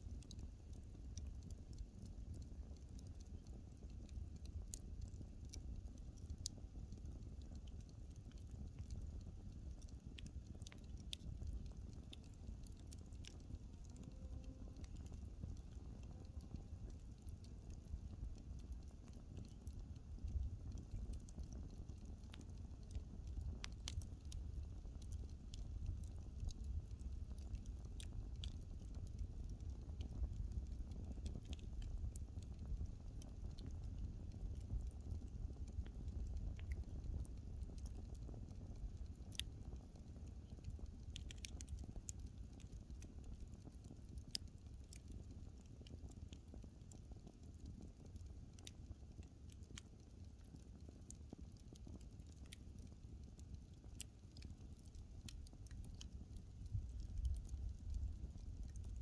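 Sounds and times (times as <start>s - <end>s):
low steady rumble: 0.0s - 49.0s, 52.4s - 59.0s
burning wood crackling: 0.0s - 59.0s.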